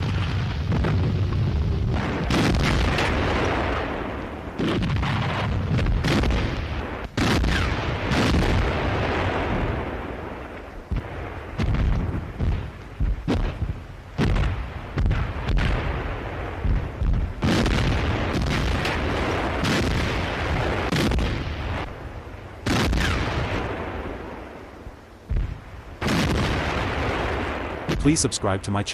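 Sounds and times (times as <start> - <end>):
sharp gunshots: 0.0 - 1.2, 1.8 - 10.3, 10.9 - 16.8, 17.4 - 21.9, 22.6 - 24.2, 25.3 - 28.9
heavy booms rumbling: 0.0 - 28.9.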